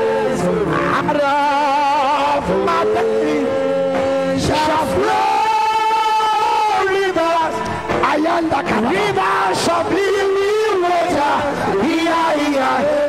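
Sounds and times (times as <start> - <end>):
man singing with vibrato: 0.0 - 13.0
musical backing: 0.0 - 13.0.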